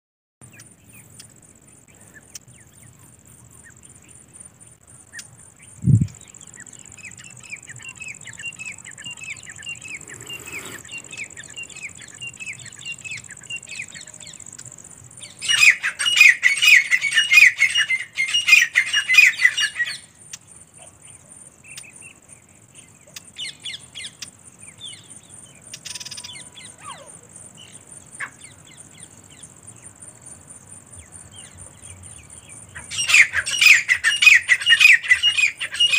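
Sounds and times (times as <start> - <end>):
francolins calling: 0.4 - 35.9.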